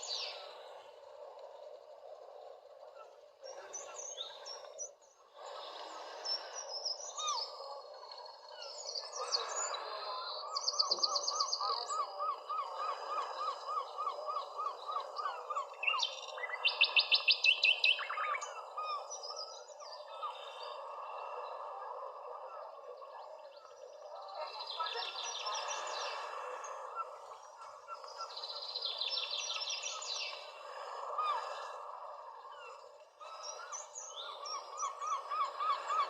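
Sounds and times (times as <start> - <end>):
birds singing and calling: 0.0 - 0.8, 2.9 - 36.0.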